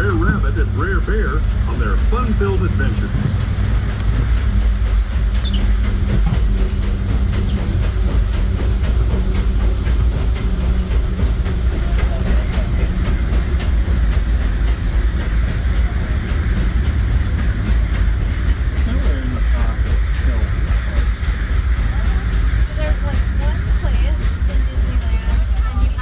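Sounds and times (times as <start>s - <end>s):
moving train rumble: 0.0s - 26.0s
wheels clicking: 0.0s - 26.0s.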